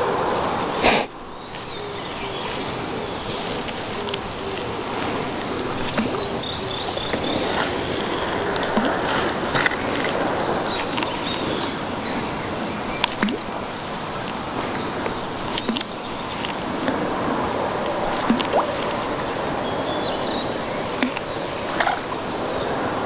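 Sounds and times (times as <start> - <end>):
steady hiss: 0.0 - 23.0
small birds chirping: 0.6 - 23.0.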